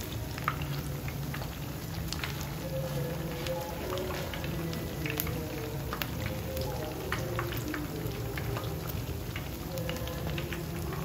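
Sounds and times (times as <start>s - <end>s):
food deep-frying in oil: 0.0s - 11.0s
oil crackling and popping: 0.0s - 11.0s.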